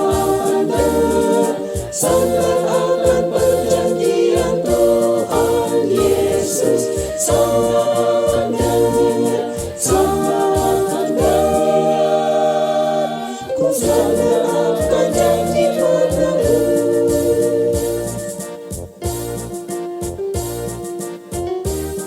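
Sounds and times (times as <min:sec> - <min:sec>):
church choir singing a hymn: 0:00.0 - 0:18.7.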